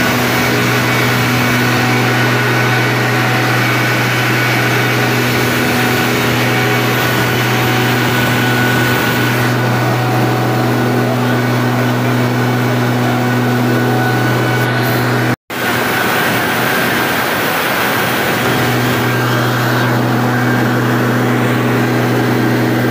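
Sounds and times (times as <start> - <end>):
diesel generator drone: 0.0 - 22.9
steady whining tones: 0.0 - 22.9.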